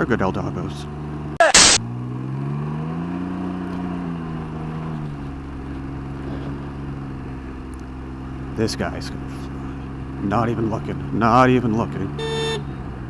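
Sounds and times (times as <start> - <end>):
three-cylinder engine accelerating: 0.0 - 13.0.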